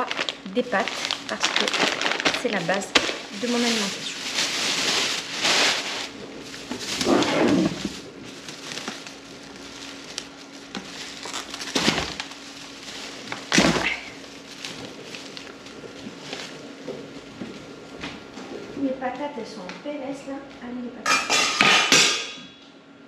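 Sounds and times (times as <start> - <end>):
plastic bag rustling: 0.0 - 19.1
faint steady hum: 0.0 - 23.0.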